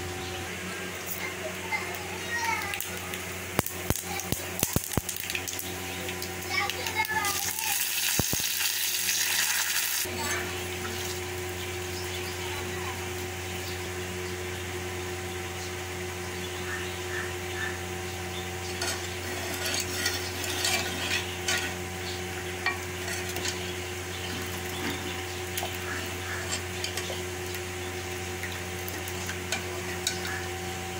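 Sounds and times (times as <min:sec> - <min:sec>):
steady low hum: 0:00.0 - 0:09.4, 0:10.0 - 0:30.9.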